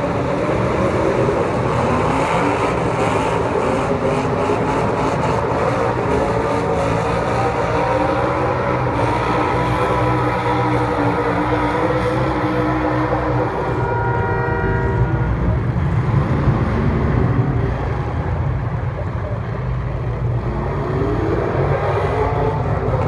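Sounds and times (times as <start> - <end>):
racing engines: 0.0 - 23.0.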